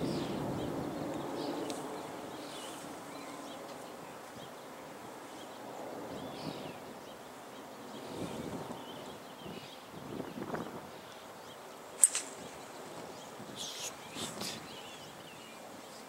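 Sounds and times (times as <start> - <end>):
birds chirping: 0.0 - 16.0
outdoor background hush: 0.0 - 16.0.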